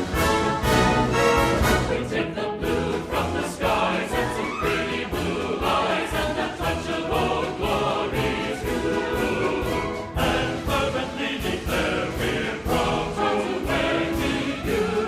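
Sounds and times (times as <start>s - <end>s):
choir singing: 0.0s - 15.0s
orchestral music: 0.0s - 15.0s.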